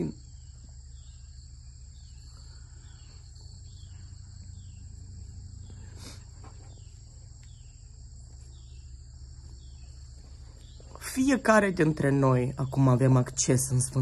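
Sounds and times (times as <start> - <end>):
high-pitched insect chorus: 0.0 - 14.0
steady low hum: 0.0 - 14.0.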